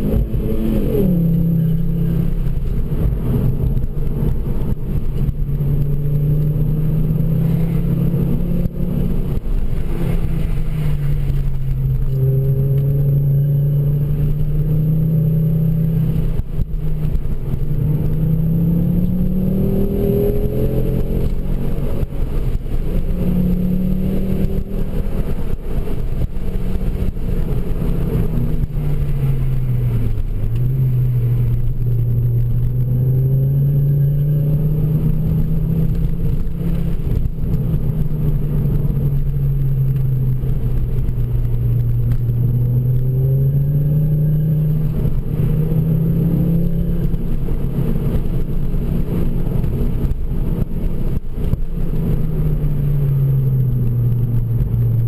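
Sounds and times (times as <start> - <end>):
car engine inside cabin: 0.0 - 55.0.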